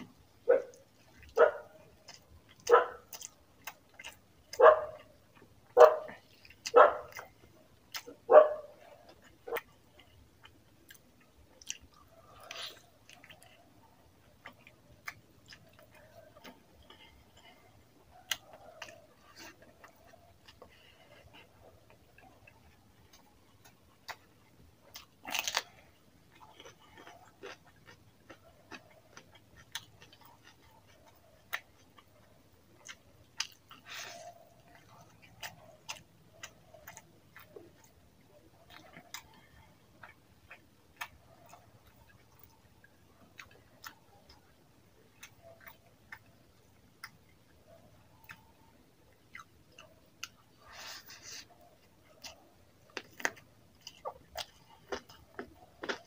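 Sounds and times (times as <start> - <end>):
man chewing: 0.0 - 56.0.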